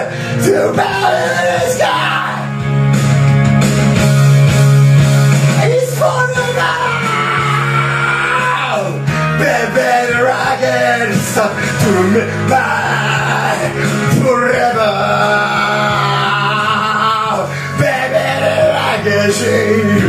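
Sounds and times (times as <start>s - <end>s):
man singing into a microphone: 0.0s - 2.5s, 5.6s - 20.0s
rock backing track: 0.0s - 20.0s.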